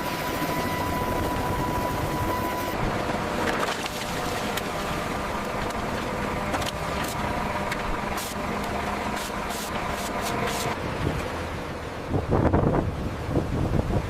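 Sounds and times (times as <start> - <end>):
machinery hum: 0.0 - 11.6.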